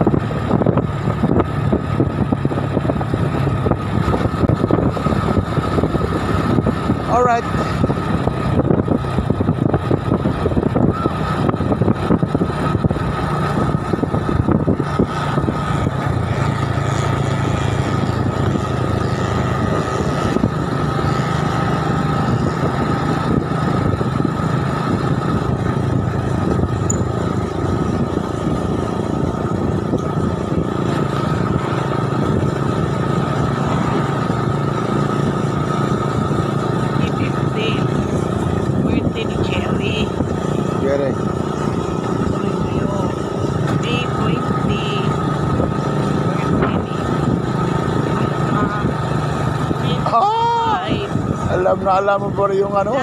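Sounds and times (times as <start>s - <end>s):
motorcycle engine running: 0.0s - 53.0s
wind noise on microphone: 0.0s - 53.0s.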